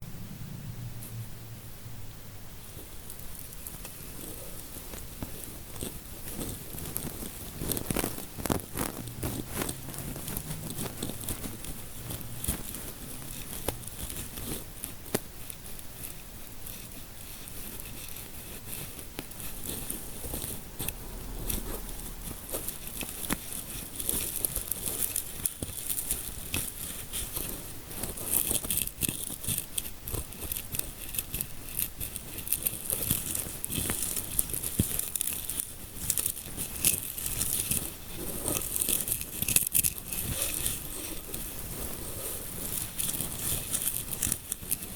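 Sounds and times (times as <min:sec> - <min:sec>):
fingers rubbing and scratching scalp: 0:02.6 - 0:44.9.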